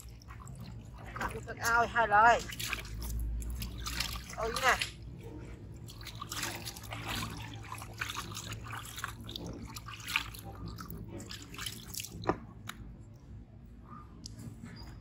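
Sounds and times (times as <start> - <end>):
water splashing in a bathtub: 0.0 - 13.0.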